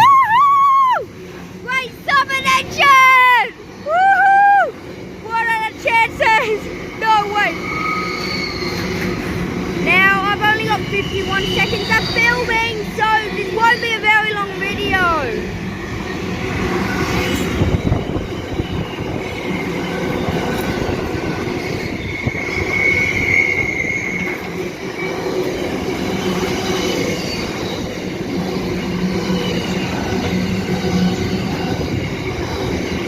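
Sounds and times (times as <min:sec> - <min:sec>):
train wheels rumbling and rattling: 0:00.0 - 0:33.0
high wheel squeal: 0:06.3 - 0:33.0.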